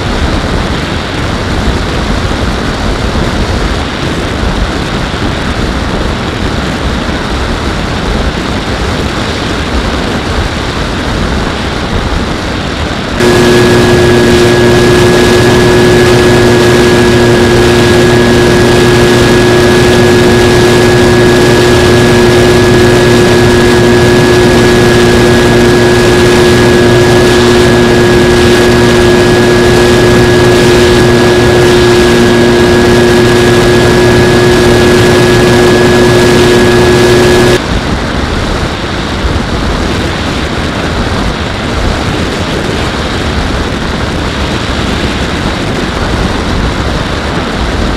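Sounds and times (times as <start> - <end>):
motor and propeller running: 0.0 - 47.9
wind rush: 0.0 - 47.9.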